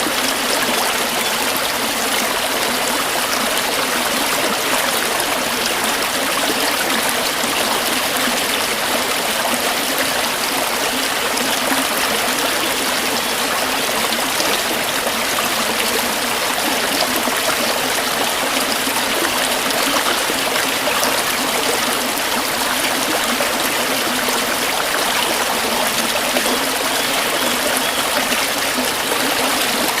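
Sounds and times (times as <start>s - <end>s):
stream water rushing and trickling: 0.0s - 30.0s.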